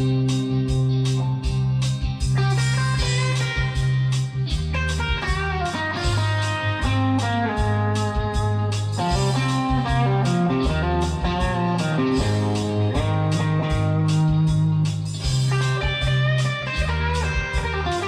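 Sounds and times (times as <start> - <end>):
bass and beat: 0.0 - 18.0
blues electric guitar: 0.0 - 18.0.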